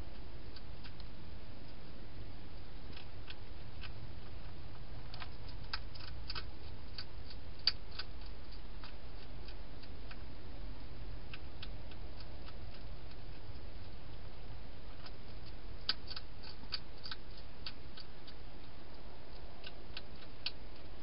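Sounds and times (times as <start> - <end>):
steady low hum: 0.0 - 21.0
hedgehog chewing clicks: 0.1 - 2.0, 2.6 - 21.0.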